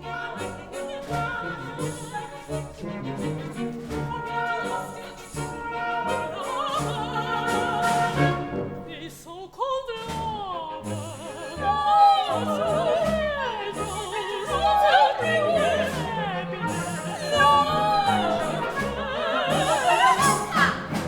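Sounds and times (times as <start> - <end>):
instrumental accompaniment: 0.0 - 9.2, 10.1 - 21.0
operatic singing: 0.0 - 21.0.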